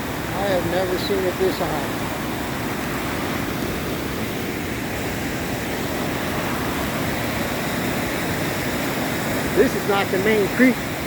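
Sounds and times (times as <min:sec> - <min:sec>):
rush of creek water: 0:00.0 - 0:11.0.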